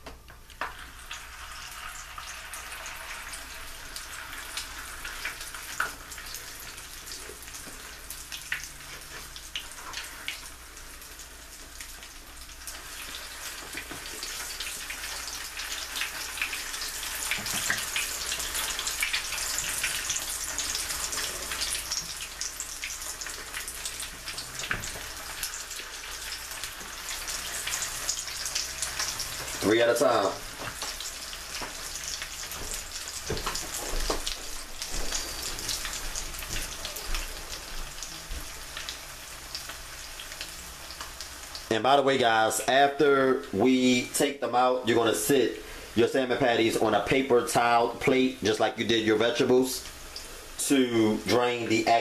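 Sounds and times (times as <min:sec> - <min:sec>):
patties sizzling in oil: 0:00.0 - 0:52.0.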